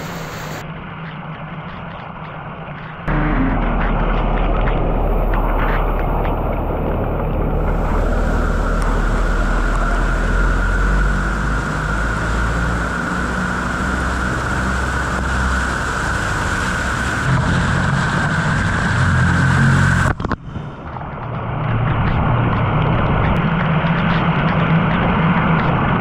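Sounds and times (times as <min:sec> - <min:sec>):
floodwater rushing: 0:00.0 - 0:00.6, 0:02.7 - 0:25.6
low rumble: 0:00.0 - 0:26.0.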